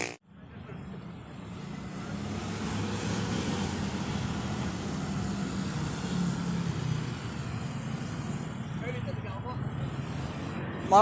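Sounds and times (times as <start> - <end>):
vehicle engine and tyre noise: 0.0 - 11.0.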